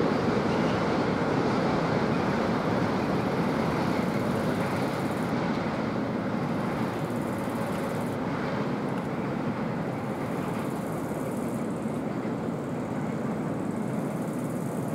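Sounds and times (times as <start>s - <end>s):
freight train rumbling: 0.0s - 14.9s.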